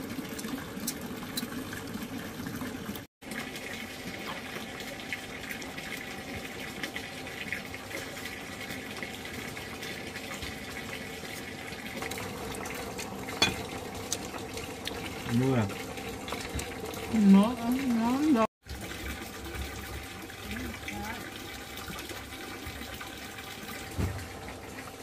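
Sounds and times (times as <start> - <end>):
water running: 0.0 - 25.0.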